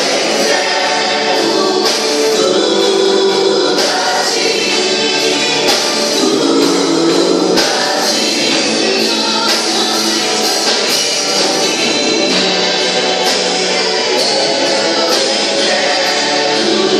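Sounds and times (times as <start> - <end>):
singing: 0.0 - 16.9
worship band playing: 0.0 - 16.9.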